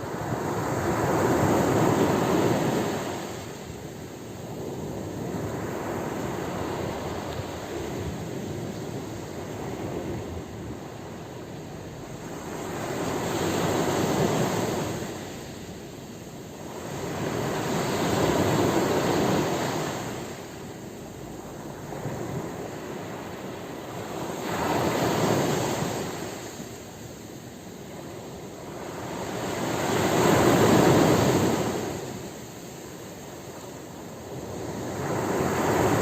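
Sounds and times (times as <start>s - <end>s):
sea waves surging: 0.0s - 36.0s.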